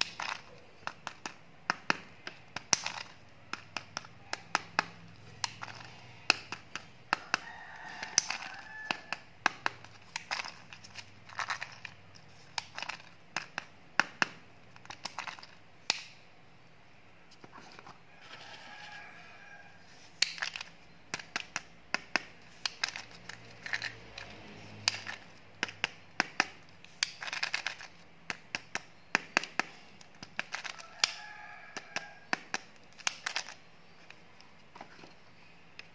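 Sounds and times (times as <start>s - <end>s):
plastic eggs clicking together: 0.0s - 16.2s, 20.2s - 34.5s.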